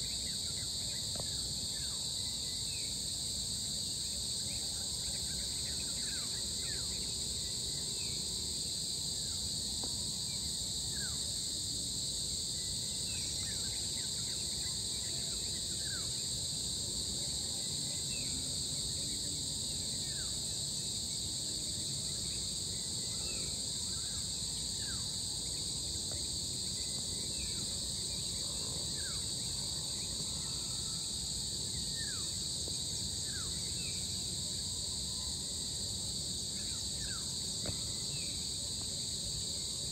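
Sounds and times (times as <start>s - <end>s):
high insect chorus: 0.0s - 39.9s.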